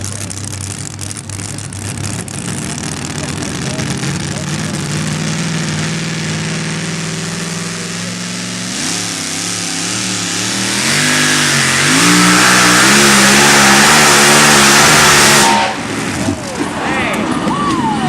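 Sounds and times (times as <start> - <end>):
truck engine revving: 0.0 - 17.5.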